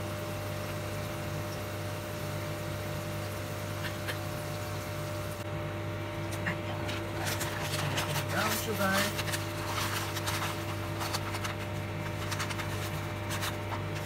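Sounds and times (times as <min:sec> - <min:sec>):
low even hum: 0:00.0 - 0:14.0
oil sizzling: 0:00.0 - 0:14.0.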